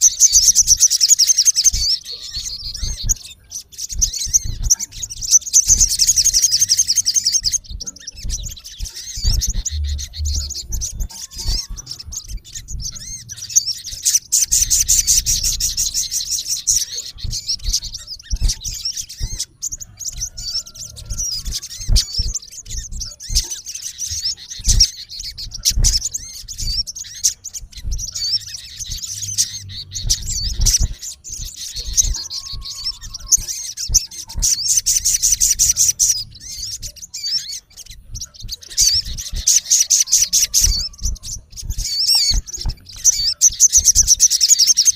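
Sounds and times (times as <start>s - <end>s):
bird chattering trills: 0.0s - 44.9s.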